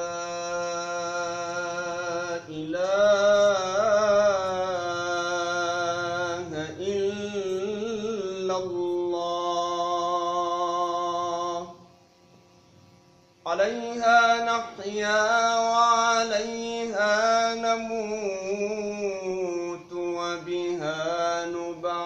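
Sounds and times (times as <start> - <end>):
man reciting melodically: 0.0 - 11.8, 13.5 - 22.0.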